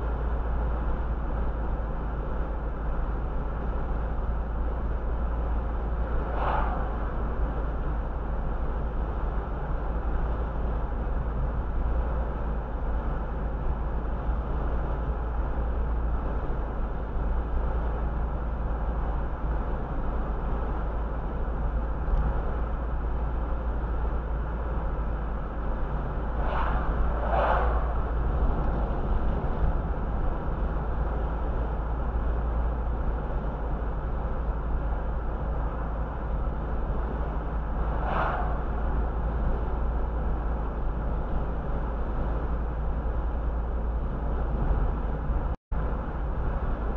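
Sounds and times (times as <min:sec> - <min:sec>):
car cabin road and engine noise: 0:00.0 - 0:46.9.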